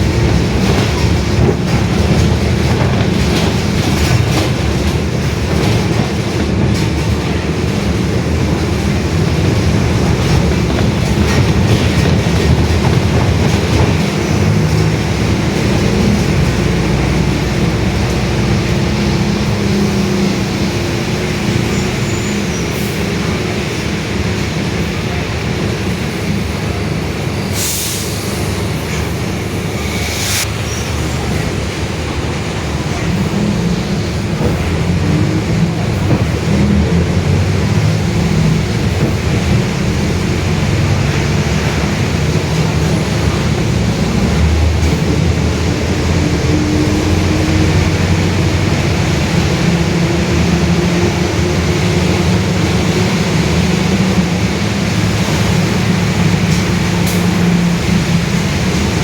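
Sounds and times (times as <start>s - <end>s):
bus differential growling: 0.0s - 59.0s.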